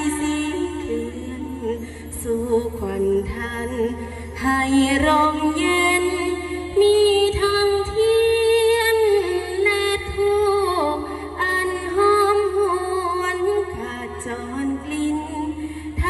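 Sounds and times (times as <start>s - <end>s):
woman singing a chant: 0.0s - 16.0s.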